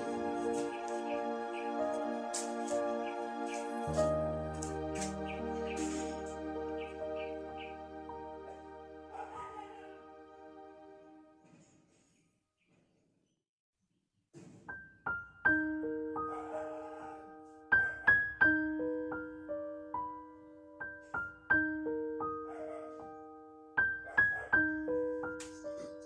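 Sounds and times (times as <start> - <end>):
piano notes and chords: 0.0 - 11.4, 15.1 - 26.0.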